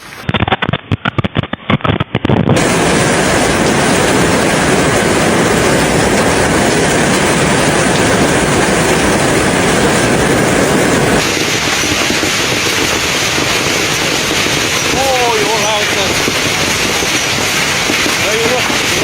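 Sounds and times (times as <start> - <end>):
storm rushing and pattering: 0.0 - 19.0.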